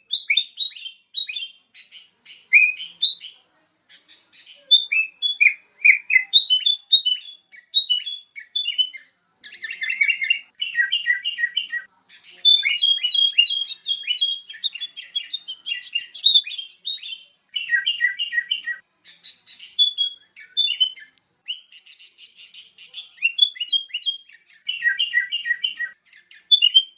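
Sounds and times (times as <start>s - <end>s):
bulbul chirping: 0.0s - 26.9s.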